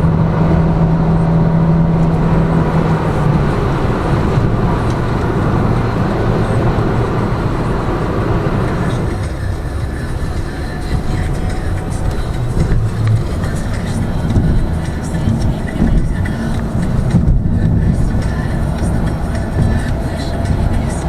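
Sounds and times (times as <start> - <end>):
car engine and tyre noise: 0.0 - 21.0
low steady drone: 0.0 - 21.0.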